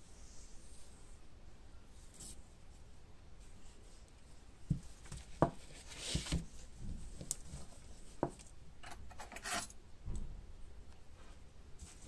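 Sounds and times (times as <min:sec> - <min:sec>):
rubbing and rustling: 0:00.0 - 0:09.7, 0:11.2 - 0:12.0.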